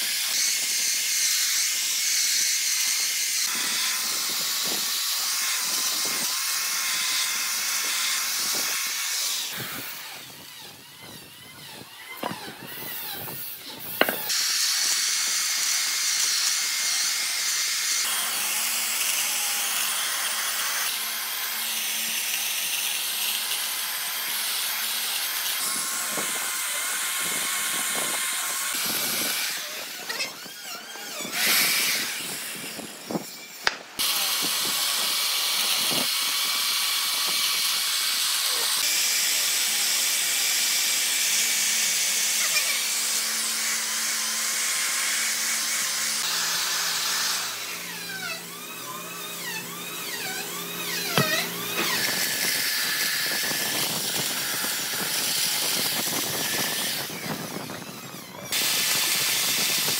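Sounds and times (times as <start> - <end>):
woodworking power tool hissing: 0.0 - 59.9.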